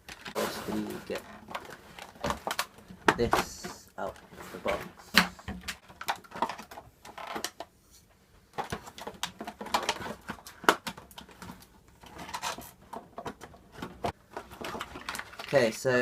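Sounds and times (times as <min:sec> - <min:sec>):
packaging rustling: 0:00.0 - 0:07.4, 0:08.6 - 0:15.8.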